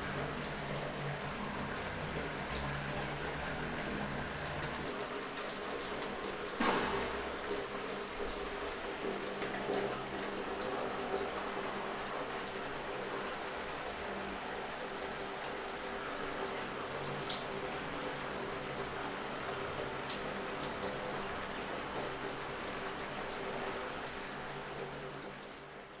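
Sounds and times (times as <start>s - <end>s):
water drips: 0.0s - 25.3s
shower water splashing on tiles: 0.0s - 25.9s.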